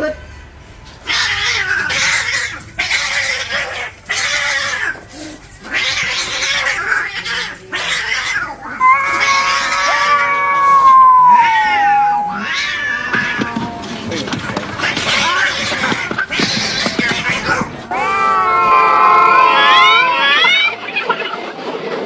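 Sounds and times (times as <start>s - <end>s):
cats hissing and spitting: 0.9s - 20.4s
cat yowling: 1.0s - 5.0s, 5.6s - 13.8s, 14.9s - 21.0s.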